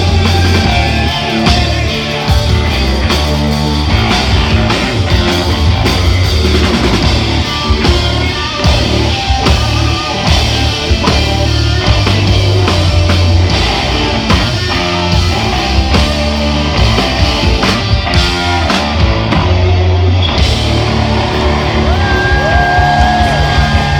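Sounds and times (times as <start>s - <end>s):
drum kit: 0.0s - 23.9s
electric bass: 0.0s - 23.9s
electric guitars: 0.0s - 23.9s.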